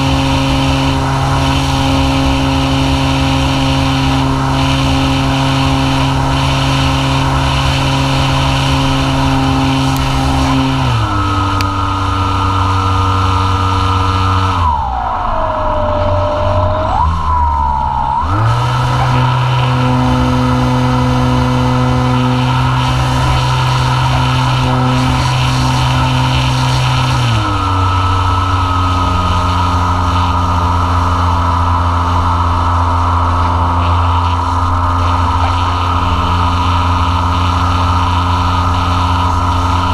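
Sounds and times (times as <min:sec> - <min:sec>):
electric motor and propeller whining: 0:00.0 - 0:39.9
rushing air noise: 0:00.0 - 0:39.9.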